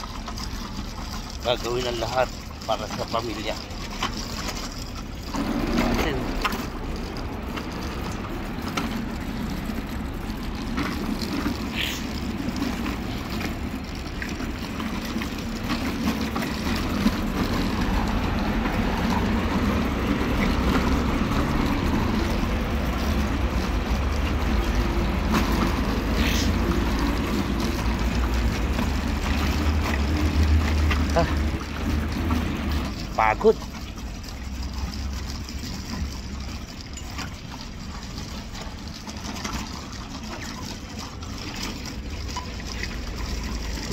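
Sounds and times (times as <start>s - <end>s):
cars idling and passing: 0.0s - 43.9s.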